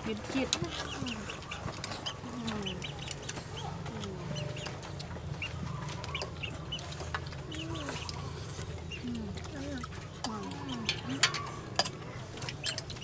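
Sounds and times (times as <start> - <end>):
chickens clucking: 0.0 - 13.0
utensils clicking against bowls: 0.0 - 13.0.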